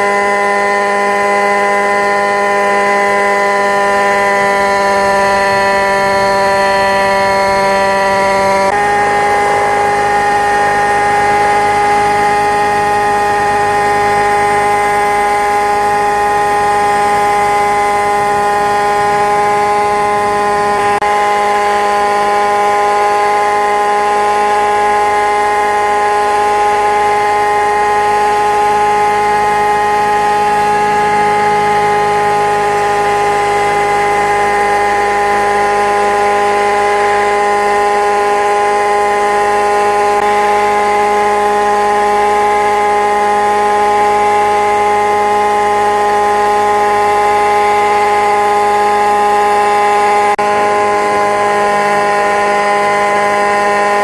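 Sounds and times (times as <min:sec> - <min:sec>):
model helicopter engine whine: 0:00.0 - 0:54.0.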